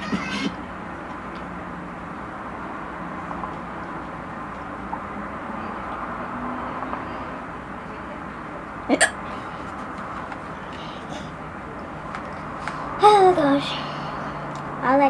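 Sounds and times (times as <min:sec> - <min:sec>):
low background rumble and hiss: 0:00.0 - 0:15.0.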